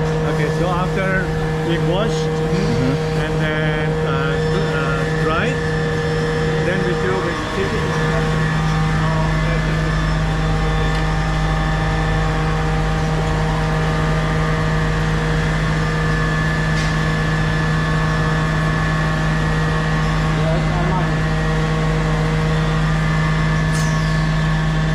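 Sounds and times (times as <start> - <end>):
laundry pressing machinery hum: 0.0 - 24.9.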